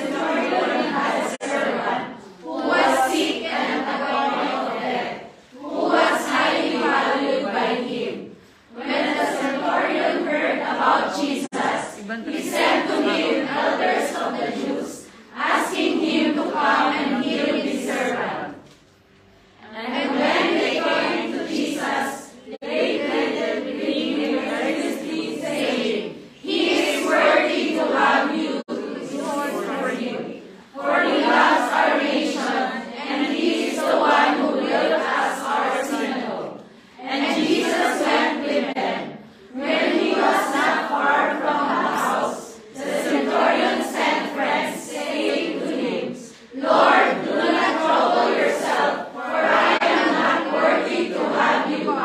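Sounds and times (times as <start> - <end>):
congregation reading aloud in unison: 0.0 - 52.0.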